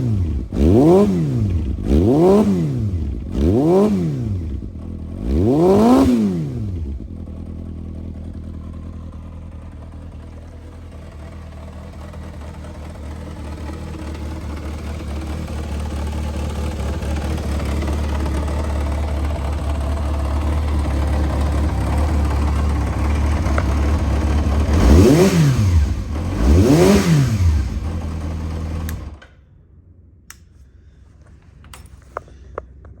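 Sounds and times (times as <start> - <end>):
motorcycle engine idling and revving: 0.0 - 30.4.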